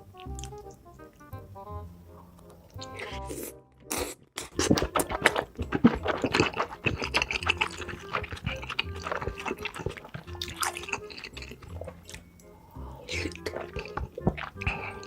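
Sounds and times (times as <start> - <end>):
wet chewing and smacking: 0.0 - 1.4, 2.3 - 15.0
soft background music: 0.0 - 15.0.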